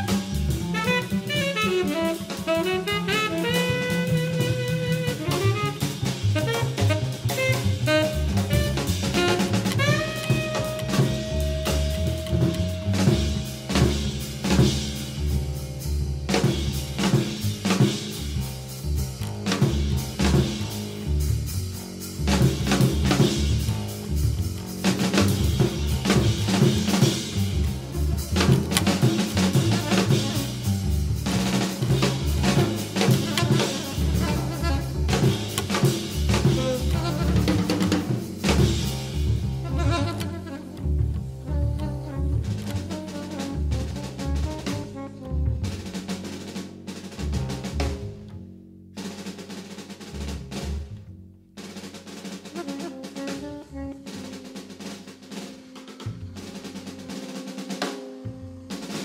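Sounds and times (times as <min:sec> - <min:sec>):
drum-kit beat: 0:00.0 - 0:48.4, 0:49.0 - 0:51.0, 0:51.6 - 0:59.0
bass line: 0:00.0 - 0:59.0.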